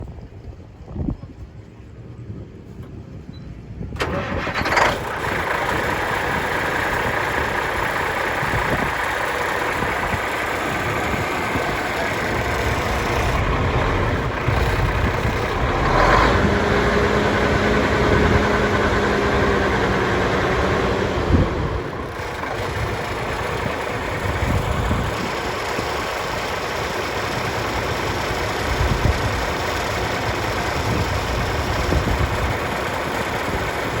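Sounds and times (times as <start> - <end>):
diesel truck engine starting and idling: 3.9 - 34.0.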